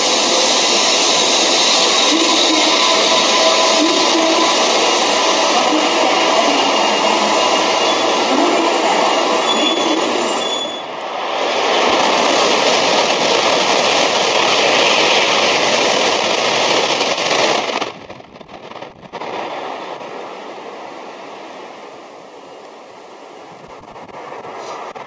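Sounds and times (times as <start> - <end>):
train rushing past: 0.0 - 25.0.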